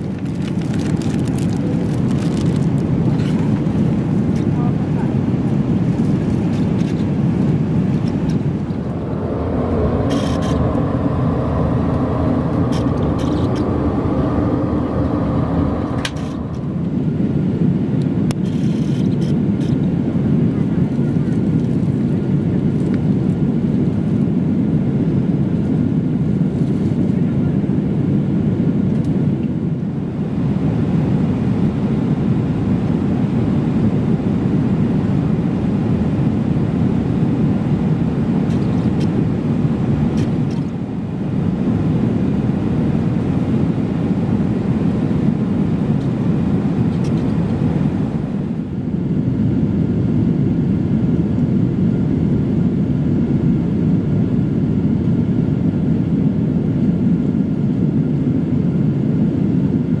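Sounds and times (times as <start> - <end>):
jet engine and airflow drone: 0.0 - 60.0.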